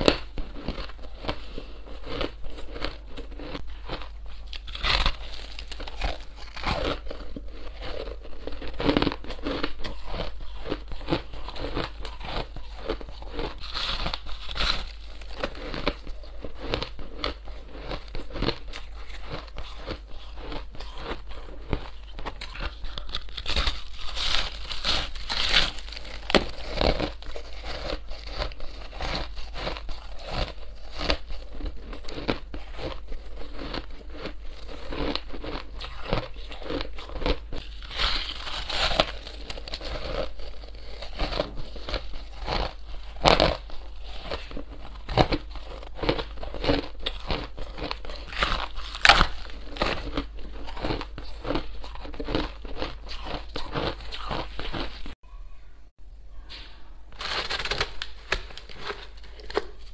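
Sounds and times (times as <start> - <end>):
crunching shaved ice: 0.0 - 55.2, 57.2 - 59.9.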